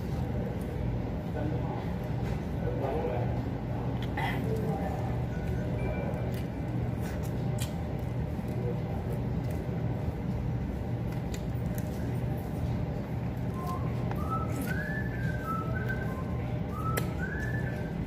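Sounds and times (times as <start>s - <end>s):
room noise hum: 0.0s - 18.0s.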